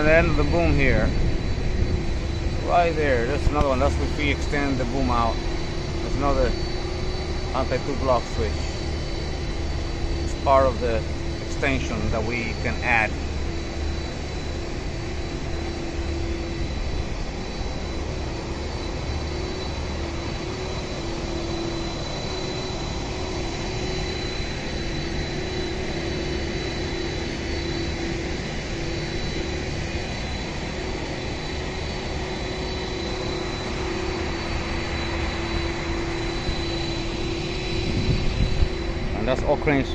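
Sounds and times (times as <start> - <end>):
crane engine droning: 0.0 - 39.9
thin high whine: 0.0 - 39.9.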